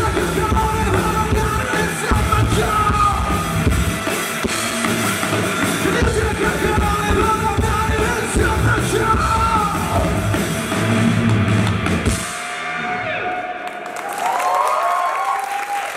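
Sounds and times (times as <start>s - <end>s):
live rock band playing: 0.0s - 13.2s.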